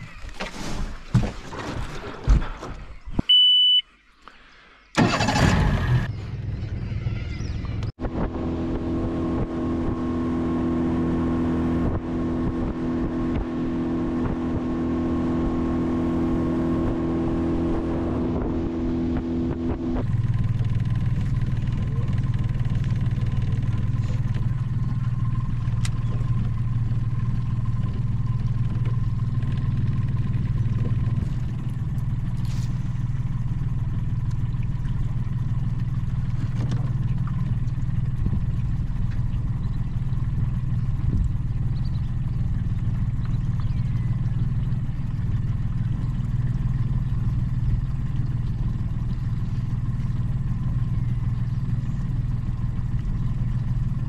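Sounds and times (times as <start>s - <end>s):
outboard motor running: 5.0s - 54.0s.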